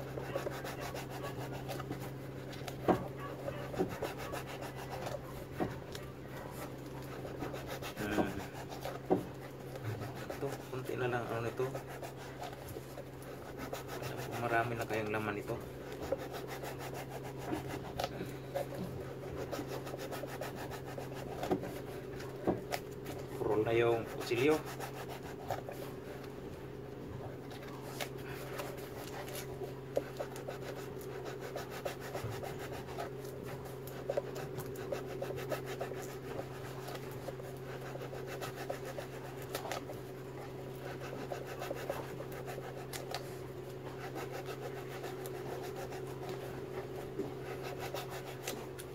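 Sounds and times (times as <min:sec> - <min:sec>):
knife scraping foam: 0:00.0 - 0:26.3, 0:27.5 - 0:48.9
steady low hum: 0:00.0 - 0:48.9.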